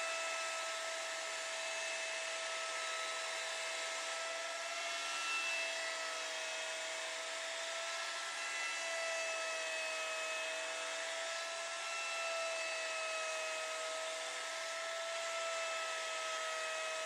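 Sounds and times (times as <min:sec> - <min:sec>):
electric wood router whining: 0:00.0 - 0:17.0.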